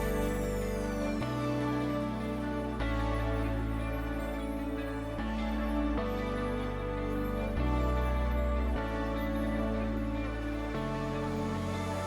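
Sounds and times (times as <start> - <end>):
soft electronic music: 0.0 - 12.0.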